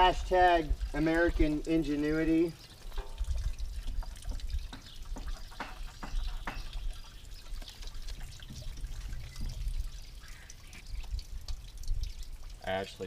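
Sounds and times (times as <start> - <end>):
fuel dripping and trickling: 0.0 - 13.0.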